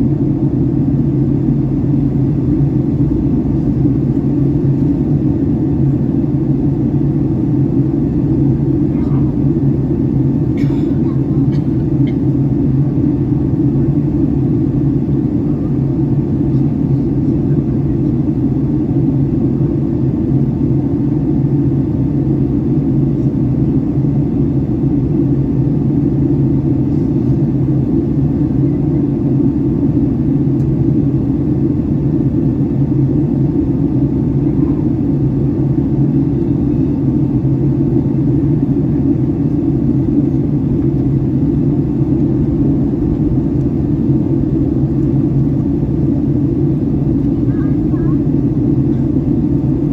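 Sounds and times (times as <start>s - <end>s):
aircraft cabin engine drone: 0.0s - 49.9s.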